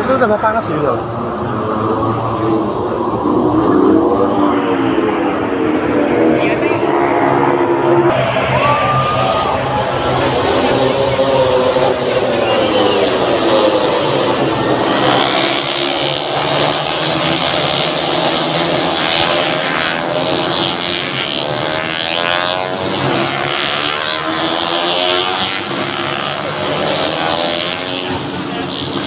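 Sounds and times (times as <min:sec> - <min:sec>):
motorcycle engines passing: 0:00.0 - 0:29.0.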